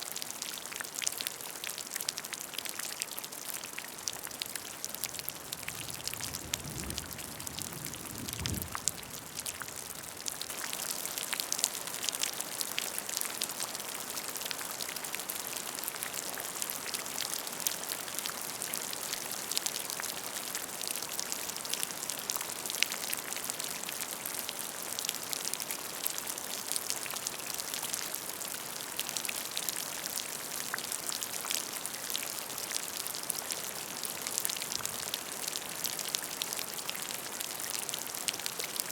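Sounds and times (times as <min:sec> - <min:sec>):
rain pattering into a puddle: 0:00.0 - 0:38.9.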